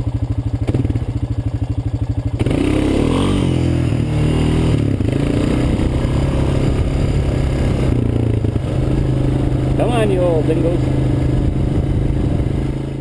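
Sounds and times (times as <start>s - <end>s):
atv engine accelerating: 0.0s - 13.0s.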